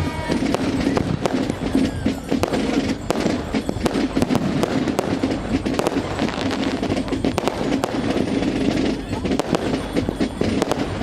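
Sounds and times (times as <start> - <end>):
background din: 0.0 - 11.0
fireworks cracking and popping: 0.0 - 11.0.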